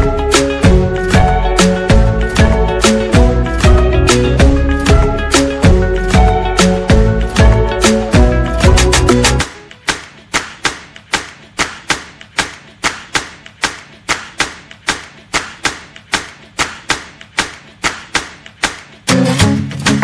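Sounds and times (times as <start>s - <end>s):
percussion beat: 0.0s - 20.0s.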